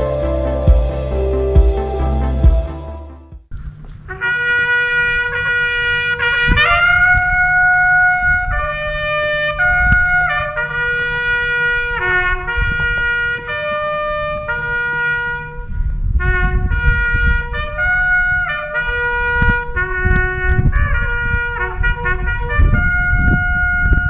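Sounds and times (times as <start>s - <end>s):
wind rumbling on microphone: 3.6s - 24.0s
bugle call on brass horn: 4.1s - 24.0s.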